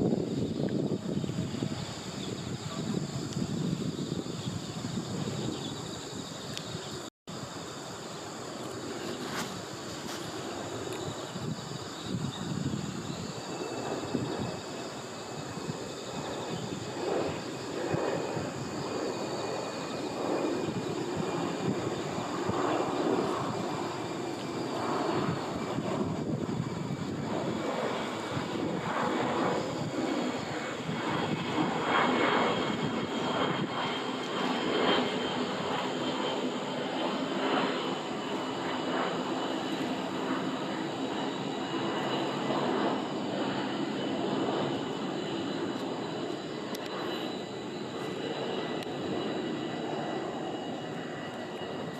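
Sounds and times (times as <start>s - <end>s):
aircraft engine drone: 0.0s - 51.9s.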